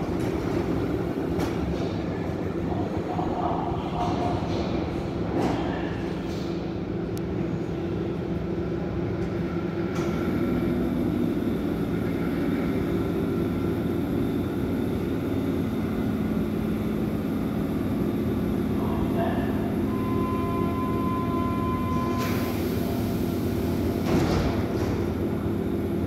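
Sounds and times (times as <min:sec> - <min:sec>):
train equipment humming: 0:00.0 - 0:26.0.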